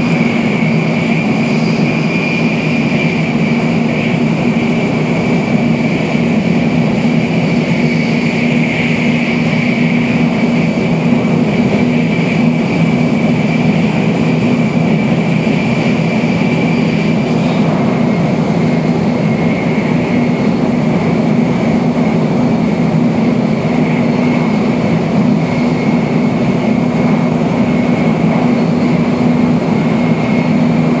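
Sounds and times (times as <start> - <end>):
faint high whine: 0.0 - 31.0
train cabin low rumble: 0.0 - 31.0.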